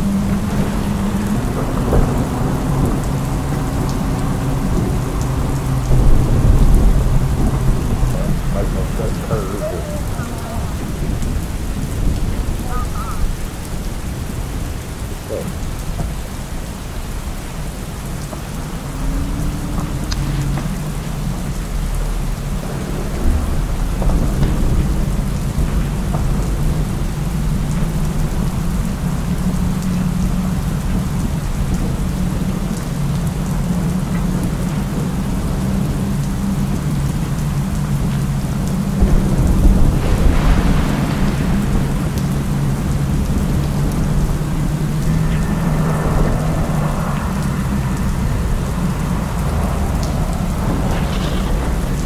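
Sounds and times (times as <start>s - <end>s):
heavy rain hissing: 0.0s - 52.0s.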